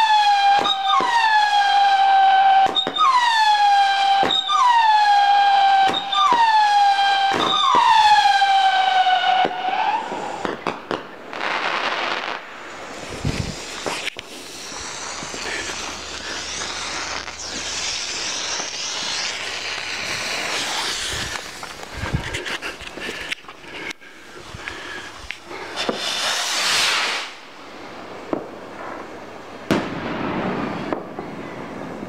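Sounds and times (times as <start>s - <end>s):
firework whistling: 0.0s - 28.0s, 29.7s - 32.0s
fireworks crackling and popping: 0.0s - 32.0s.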